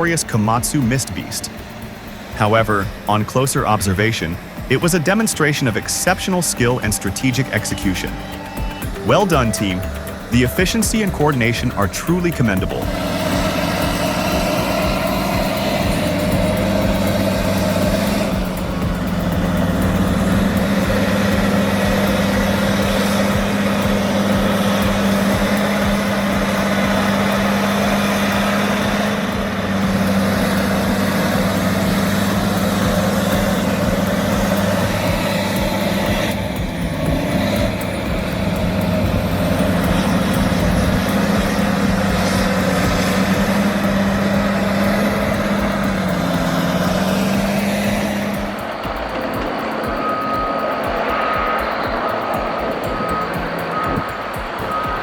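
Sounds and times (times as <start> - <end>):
diesel engine humming: 0.0 - 55.0.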